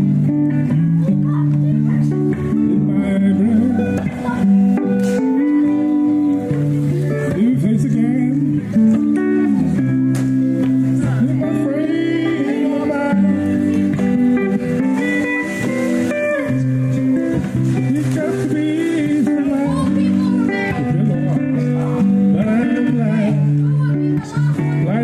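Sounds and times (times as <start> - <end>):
slow bluesy guitar: 0.0 - 25.0
person singing: 0.1 - 10.0, 10.8 - 17.1, 17.8 - 25.0.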